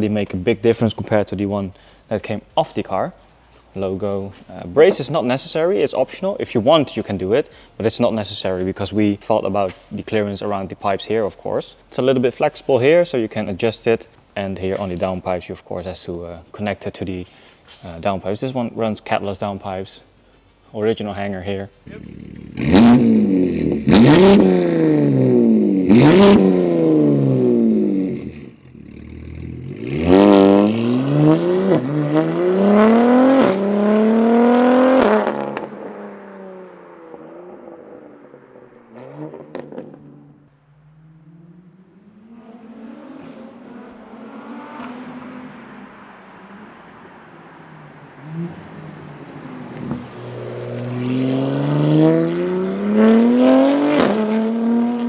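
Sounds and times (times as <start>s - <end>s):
car exhaust revving: 0.0s - 55.0s.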